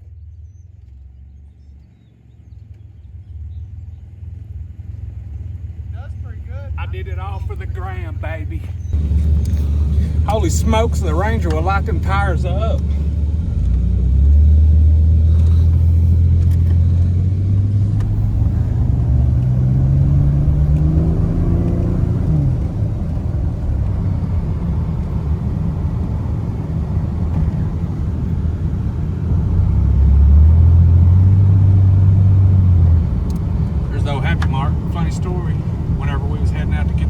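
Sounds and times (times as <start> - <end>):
road rumble: 0.0 - 37.0
pickup engine accelerating: 0.4 - 37.0.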